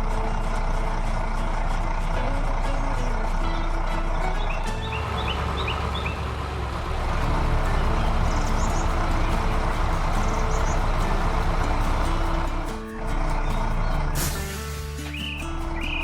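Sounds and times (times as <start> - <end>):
simple background tune: 0.0 - 6.2, 6.8 - 16.0
heavy vehicle engine running: 0.0 - 16.0.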